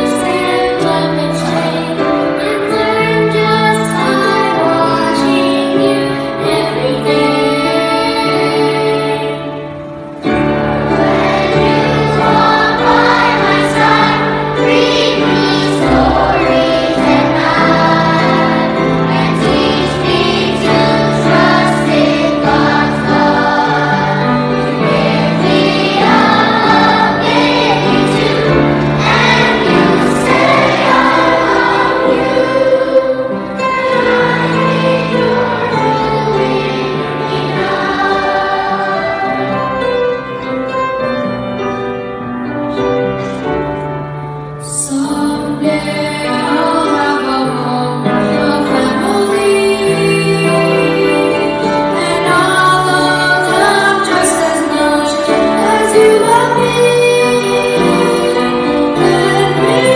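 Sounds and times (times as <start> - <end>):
choir singing: 0.0 - 40.6, 44.6 - 59.9.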